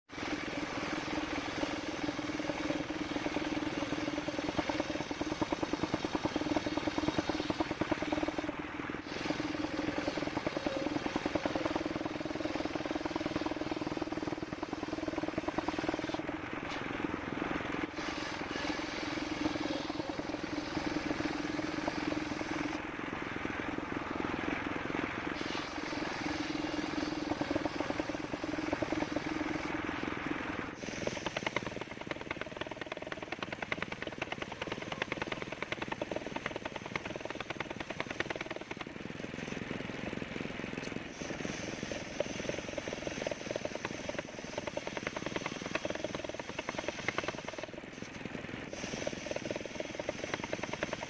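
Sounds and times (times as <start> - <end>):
sawmill engine running: 0.1 - 51.0.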